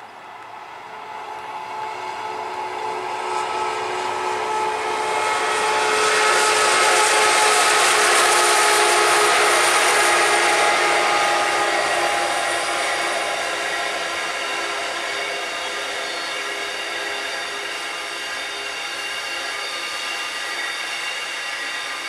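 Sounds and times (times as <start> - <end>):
diesel locomotive engine whine: 0.0 - 22.0
train wheels rushing on rails: 0.0 - 22.0.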